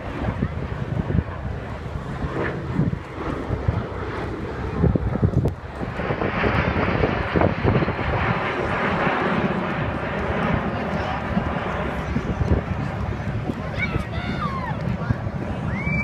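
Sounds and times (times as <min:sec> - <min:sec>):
aircraft flying overhead: 0:00.0 - 0:16.0.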